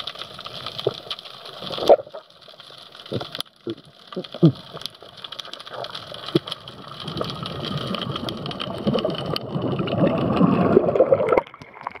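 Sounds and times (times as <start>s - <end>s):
light crackling clicks: 0.0s - 11.7s
underwater bubbles rushing: 0.0s - 12.0s.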